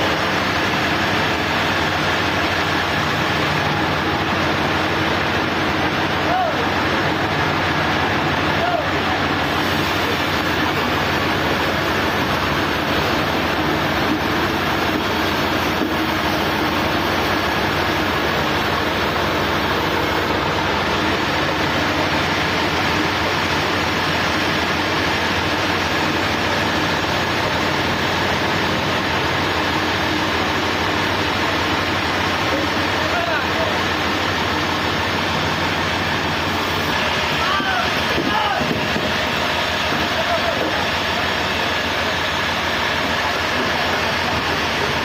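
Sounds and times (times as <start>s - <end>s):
engine drone: 0.0s - 45.0s
sawmill machinery noise: 0.0s - 45.0s.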